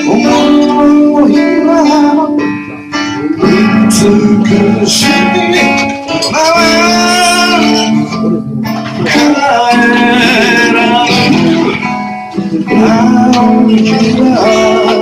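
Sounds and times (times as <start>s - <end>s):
guitar playing: 0.0s - 15.0s
person singing: 0.0s - 15.0s.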